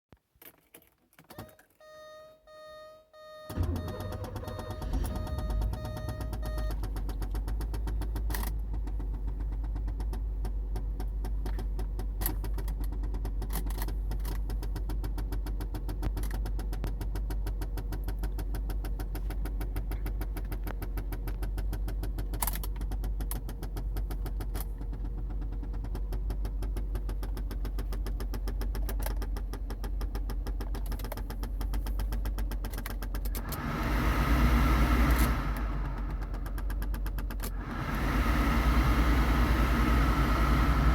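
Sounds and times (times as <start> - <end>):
car engine idling: 3.5 - 40.9.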